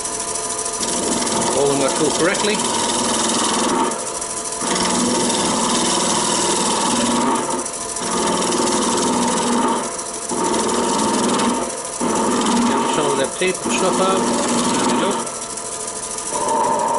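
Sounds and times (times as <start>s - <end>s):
gouge cutting spinning wood: 0.0s - 16.9s
wood lathe motor hum: 0.0s - 16.9s.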